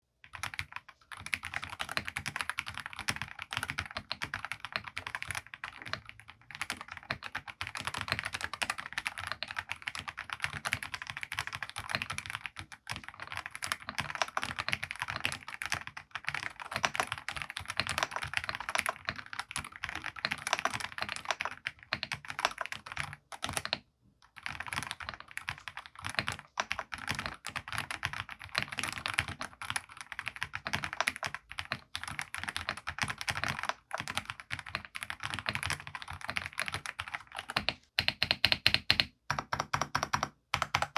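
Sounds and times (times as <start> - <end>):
mechanical keyboard typing: 0.3 - 40.9.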